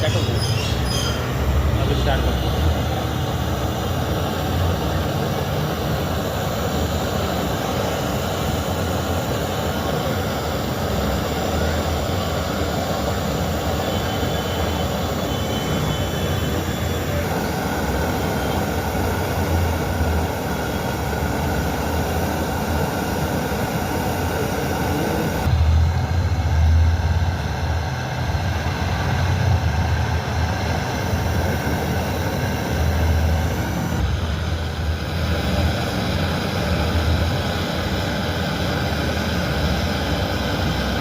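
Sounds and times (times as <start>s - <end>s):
loud mechanical rumbling: 0.0s - 41.0s.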